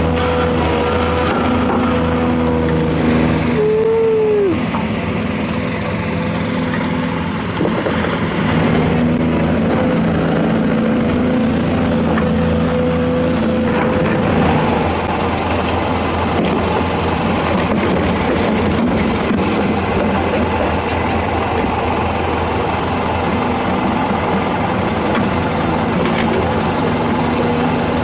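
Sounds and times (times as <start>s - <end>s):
excavator diesel engine: 0.0s - 28.0s
hydraulic whine: 0.0s - 28.0s.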